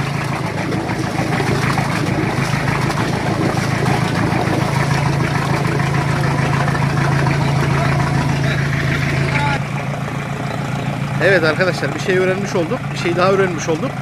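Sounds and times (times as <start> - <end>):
boat engine idling: 0.0 - 14.0
exhaust water splashing: 0.0 - 14.0.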